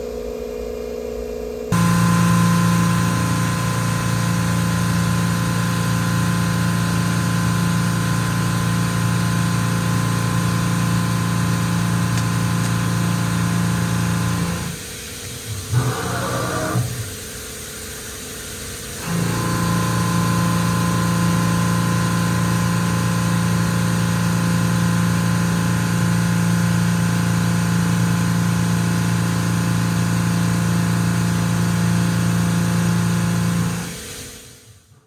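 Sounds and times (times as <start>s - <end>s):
machining center mechanical hum: 0.0s - 35.0s.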